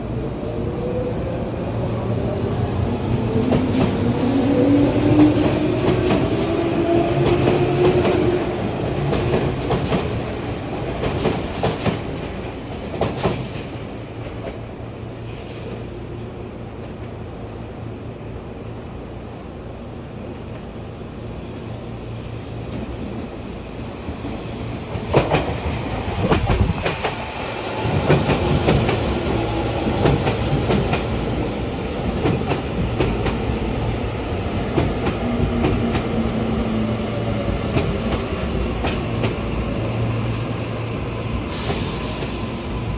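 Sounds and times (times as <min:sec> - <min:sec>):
electric train rumbling: 0:00.0 - 0:42.9.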